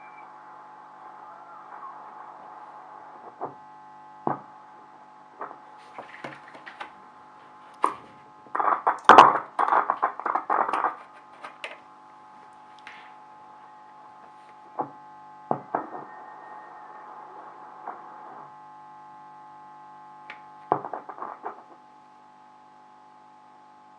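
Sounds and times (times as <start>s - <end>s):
crackling static: 0.0s - 23.9s
radio loudspeaker hum: 0.0s - 23.9s
static pops: 0.0s - 23.9s.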